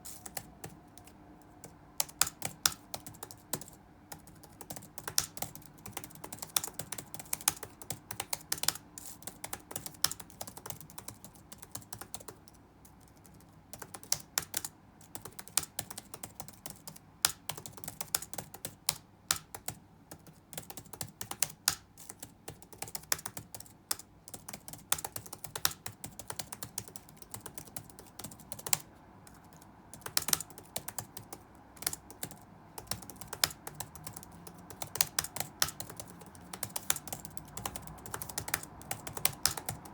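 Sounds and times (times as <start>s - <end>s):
faint room ambience: 0.0s - 39.9s
typing on a keyboard: 0.0s - 39.9s.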